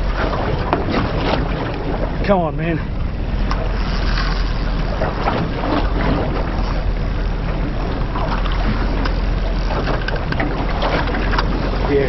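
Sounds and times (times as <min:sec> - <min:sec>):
choppy sea: 0:00.0 - 0:12.0
wind on microphone: 0:00.0 - 0:12.0.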